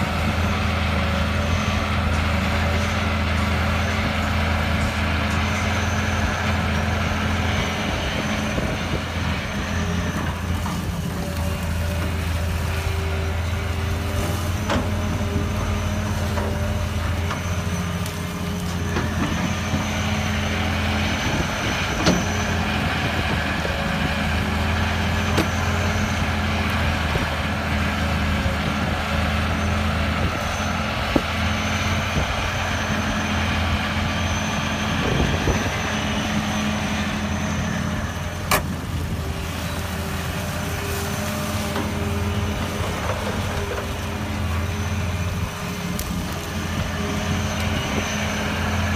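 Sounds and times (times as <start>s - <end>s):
excavator diesel engine: 0.0s - 48.9s
hydraulic whine: 0.0s - 48.9s.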